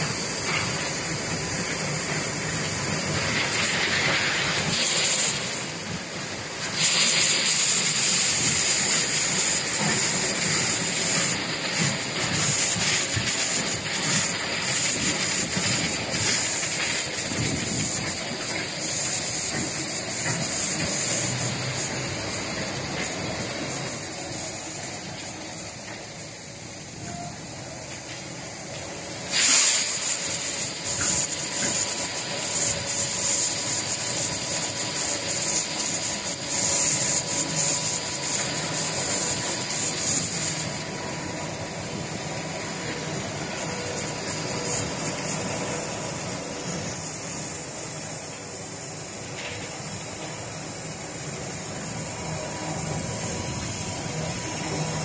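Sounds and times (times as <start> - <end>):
loud hiss burst: 0.0 - 55.0.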